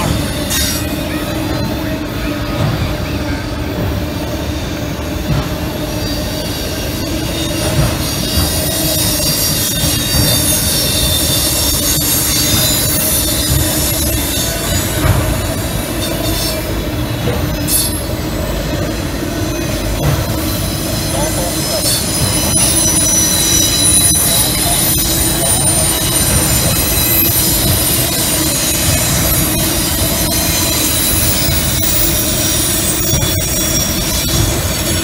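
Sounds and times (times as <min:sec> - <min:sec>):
train rumble: 0:00.0 - 0:35.0
train wheels squealing: 0:00.0 - 0:35.0.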